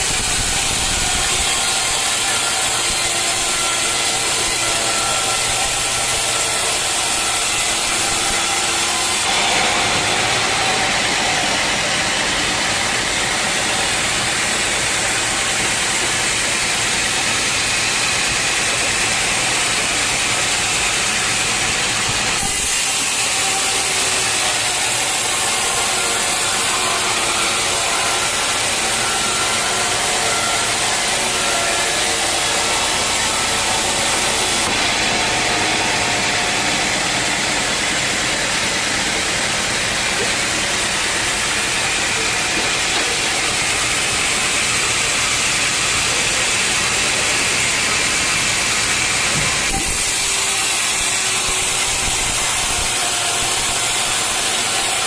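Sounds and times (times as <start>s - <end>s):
sawmill saw cutting logs: 0.0s - 55.0s.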